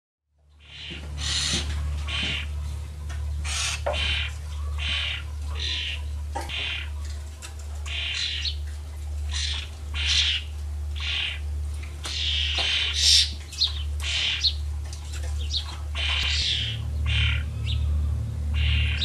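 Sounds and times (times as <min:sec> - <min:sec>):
steady low hum: 0:00.3 - 0:19.0
birds chirping harshly: 0:00.6 - 0:19.0.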